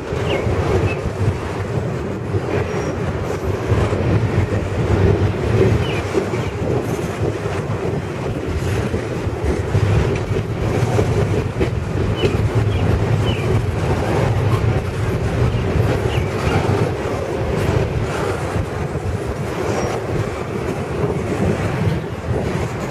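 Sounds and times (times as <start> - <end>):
steel wheels rumbling on rail: 0.0 - 22.9.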